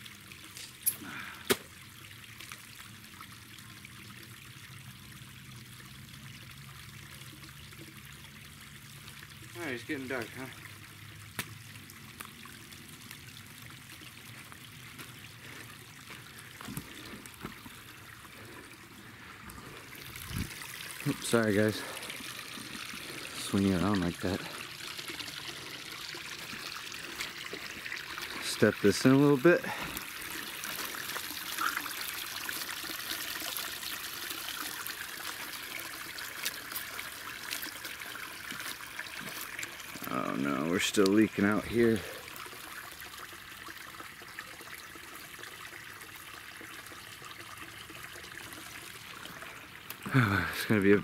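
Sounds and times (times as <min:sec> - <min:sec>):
stream water trickling: 0:00.0 - 0:51.0.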